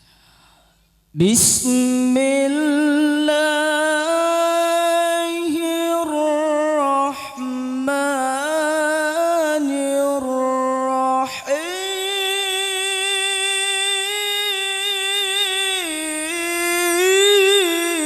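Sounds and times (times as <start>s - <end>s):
person reciting in melodic chant: 1.2s - 18.0s.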